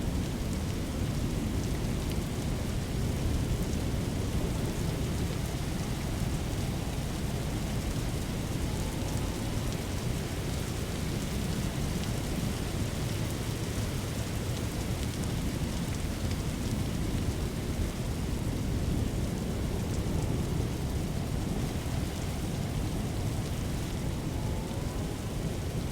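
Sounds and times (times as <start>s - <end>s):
heavy rain: 0.0s - 25.9s.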